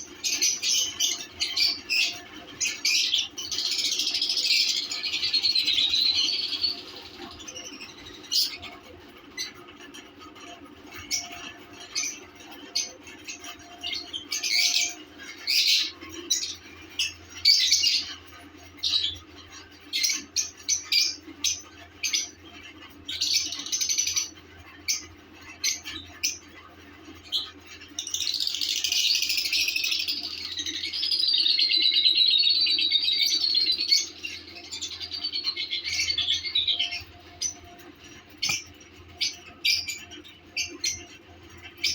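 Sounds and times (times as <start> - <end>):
lovebirds chirping and warbling: 0.0 - 41.9.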